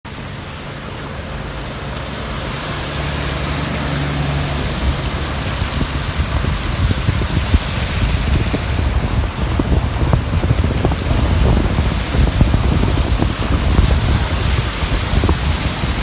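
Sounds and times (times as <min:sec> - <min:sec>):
heavy rain and hail: 0:00.1 - 0:16.0
wind buffeting microphone: 0:00.1 - 0:16.0.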